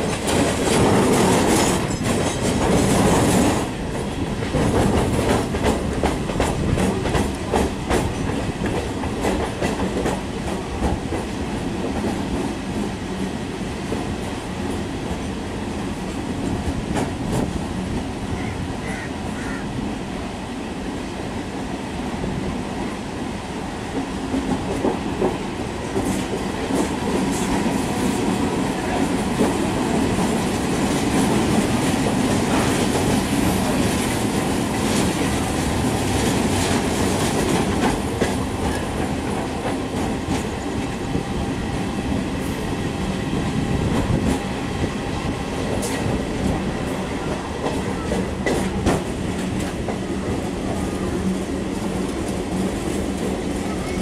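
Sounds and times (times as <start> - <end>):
train wheels rumbling on rails: 0.0 - 54.0
wind: 0.0 - 54.0.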